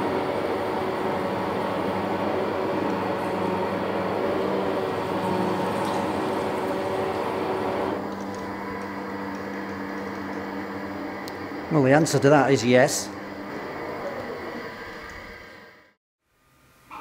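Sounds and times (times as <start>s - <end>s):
lathe humming: 0.0s - 16.0s.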